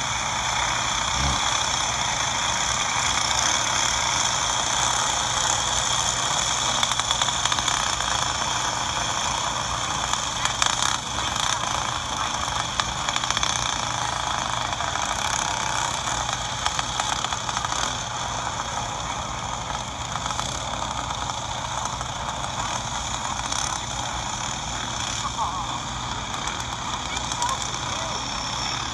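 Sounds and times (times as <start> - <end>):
go-kart engines droning: 0.0 - 28.9.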